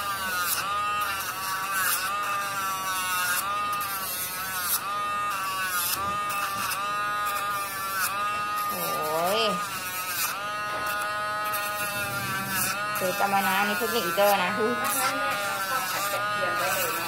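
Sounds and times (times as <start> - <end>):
grinding rasps on toenails: 0.0 - 17.0
rotary tool whining: 0.0 - 17.0.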